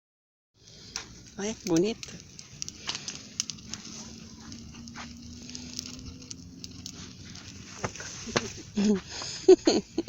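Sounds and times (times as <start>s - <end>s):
campfire crackling and popping: 0.6s - 10.0s.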